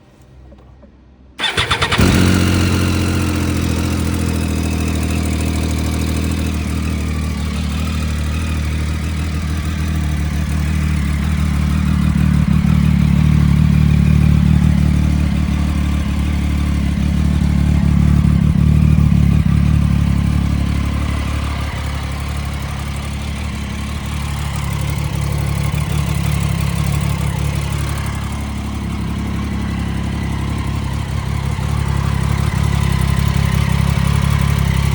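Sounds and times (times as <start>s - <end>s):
motorcycle engine starting and idling: 0.2s - 34.9s.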